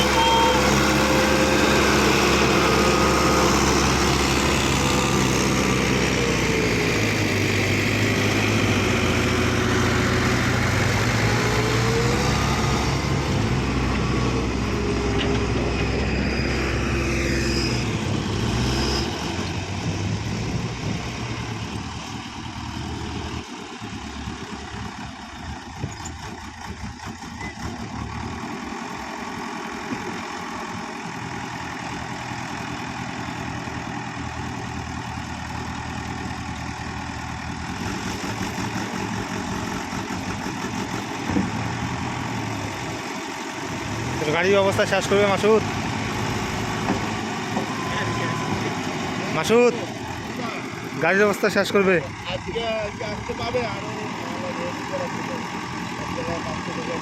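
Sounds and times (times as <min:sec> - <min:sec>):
tractor engine working under load: 0:00.0 - 0:57.0.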